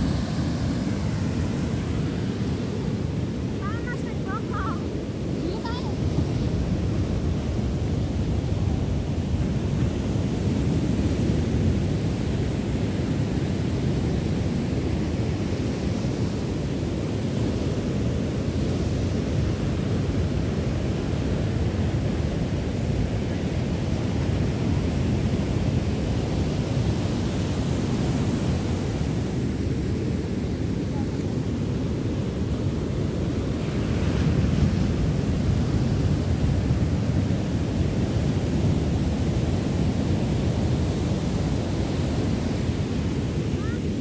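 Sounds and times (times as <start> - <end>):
surf breaking on beach: 0.0 - 44.0
wind buffeting microphone: 0.0 - 44.0.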